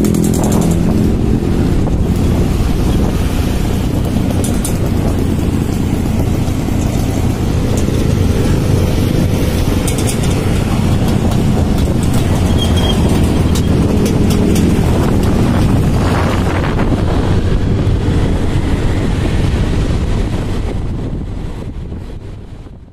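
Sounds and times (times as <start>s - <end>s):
motorcycles running: 0.0s - 22.7s
wind on microphone: 0.0s - 22.9s.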